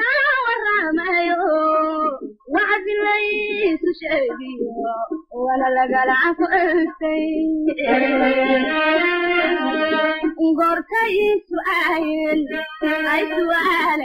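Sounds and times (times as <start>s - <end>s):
high voice singing: 2.0s - 14.0s.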